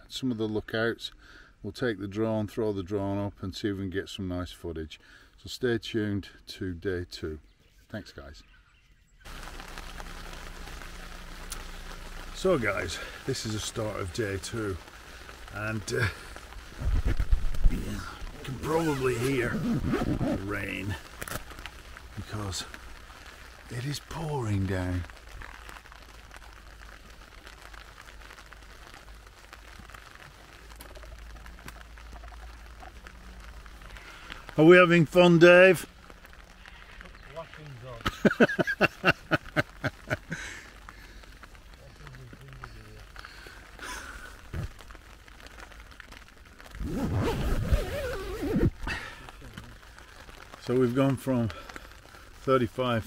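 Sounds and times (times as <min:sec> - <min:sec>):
rain pattering on a tent: 0:00.0 - 0:08.5, 0:09.2 - 0:53.0.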